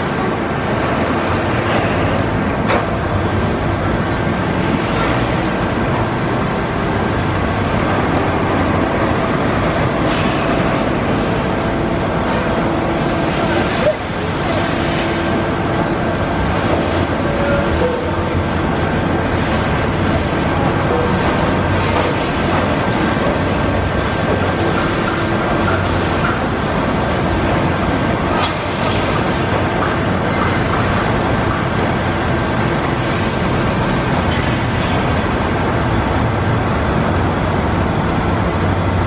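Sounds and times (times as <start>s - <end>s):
demolition excavator engine and hydraulics: 0.0s - 39.0s.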